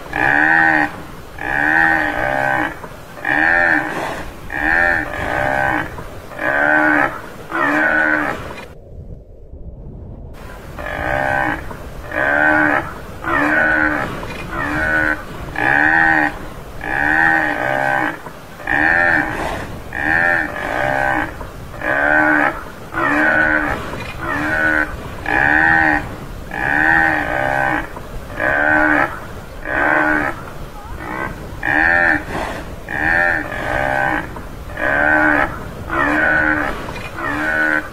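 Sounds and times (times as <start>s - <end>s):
buffalo calling: 0.0s - 8.7s, 10.4s - 37.9s.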